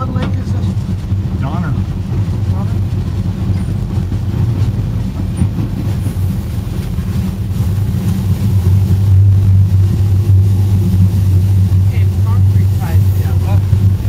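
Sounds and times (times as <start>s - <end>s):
vehicle rumble from inside: 0.0s - 14.0s.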